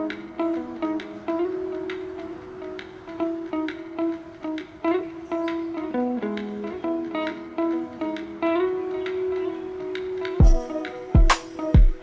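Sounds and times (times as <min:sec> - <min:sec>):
plucked notes: 0:00.0 - 0:12.0.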